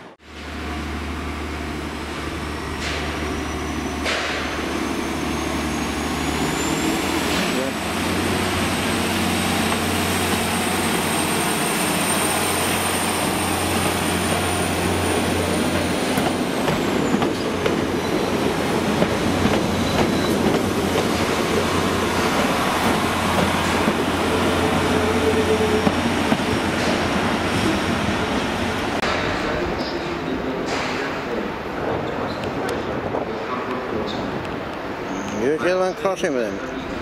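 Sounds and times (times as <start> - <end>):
train drone with high whine: 0.0 - 35.4.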